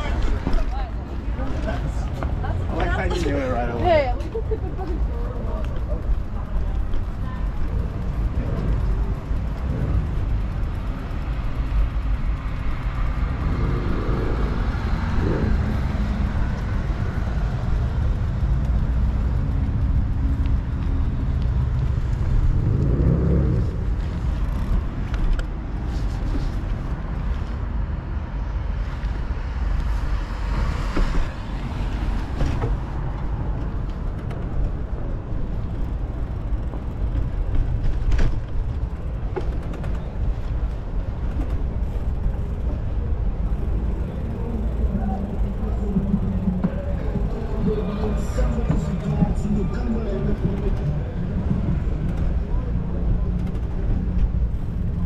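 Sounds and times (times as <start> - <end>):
cars passing by: 0.0 - 55.0
steady low rumble: 0.0 - 55.0.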